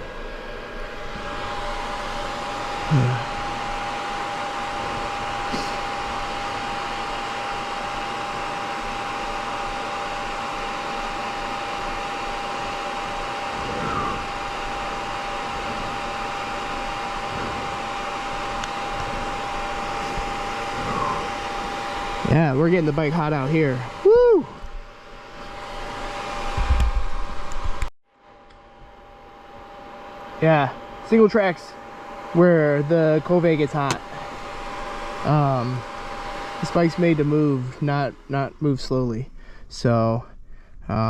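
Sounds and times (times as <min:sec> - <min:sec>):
radiator cooling fan whirring: 0:00.0 - 0:41.0.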